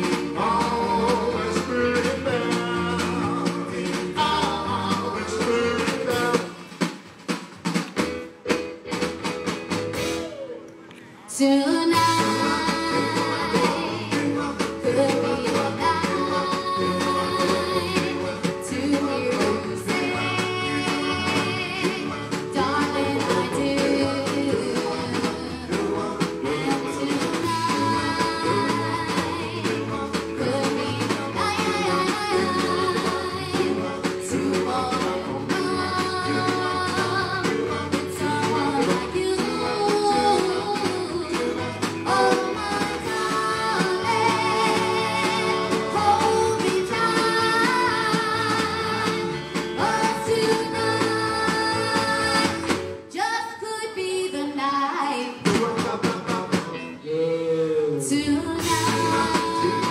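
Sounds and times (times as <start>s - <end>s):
doo-wop band playing: 0.0s - 59.9s.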